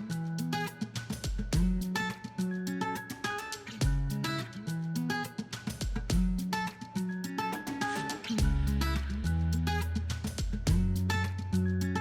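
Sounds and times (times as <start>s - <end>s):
guitar with bass and drums: 0.0s - 12.0s.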